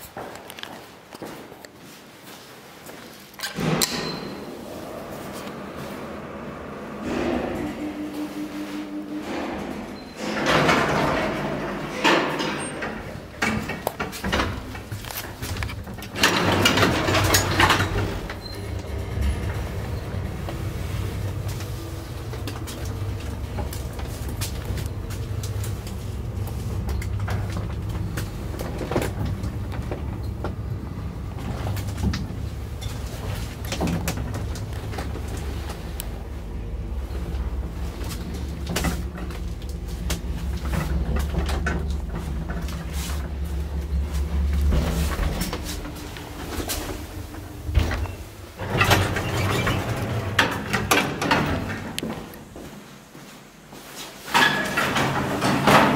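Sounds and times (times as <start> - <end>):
lift car clicks and rattles: 3.4 - 52.6, 54.2 - 55.9
sliding doors closing: 3.4 - 55.9
door drive rumble: 3.6 - 52.7
lift low hum: 3.6 - 53.2.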